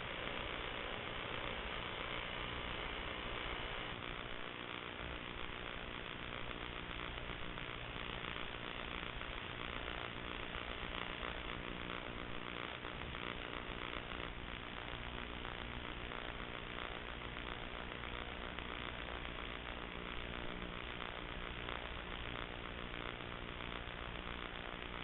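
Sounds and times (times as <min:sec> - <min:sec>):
electrical static hiss: 0:00.0 - 0:25.0
low mains hum: 0:00.0 - 0:25.0.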